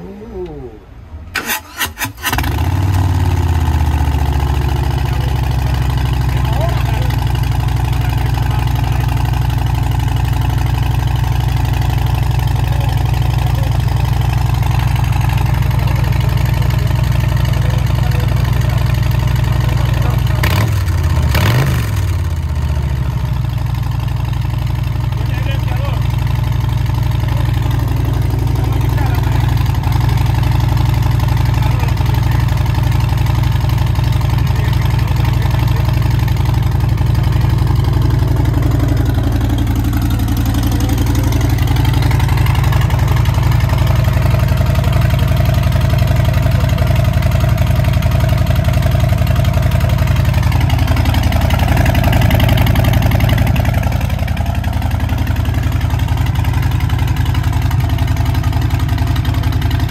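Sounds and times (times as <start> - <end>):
motorcycle engine idling: 1.4 - 59.9.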